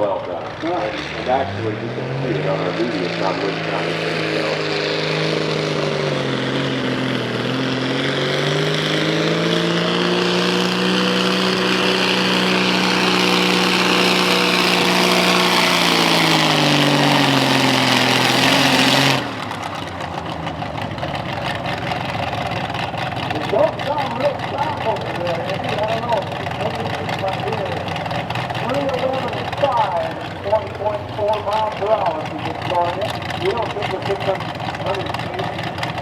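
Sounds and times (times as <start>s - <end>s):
low rough engine rumble: 0.0s - 36.0s
tractor diesel engine under load: 0.0s - 36.0s.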